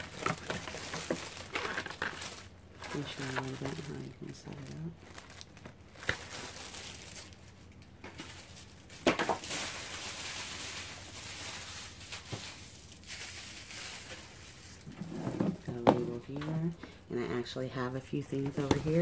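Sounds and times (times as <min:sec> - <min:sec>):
plastic wrap rustling: 0:00.0 - 0:16.8, 0:18.2 - 0:19.0.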